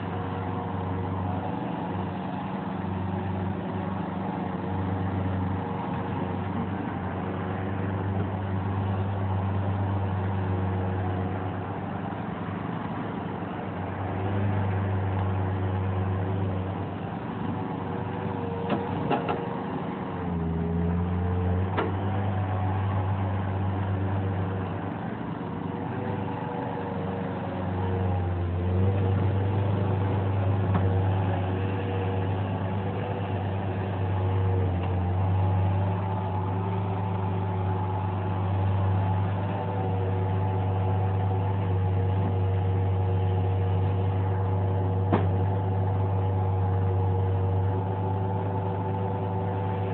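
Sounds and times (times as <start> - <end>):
diesel engine under load: 0.0 - 49.9.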